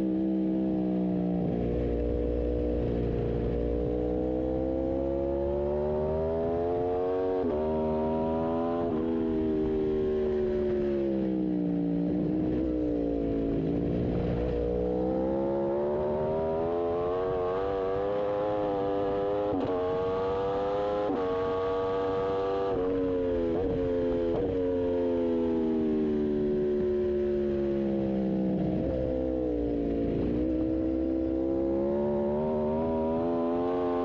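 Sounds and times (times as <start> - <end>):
motorcycle engine at racing revs: 0.0 - 34.0.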